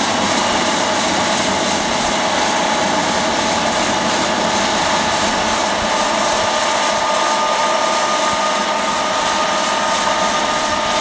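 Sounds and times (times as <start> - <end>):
fan whine: 0.0 - 11.0
seed drill machine running: 0.0 - 11.0.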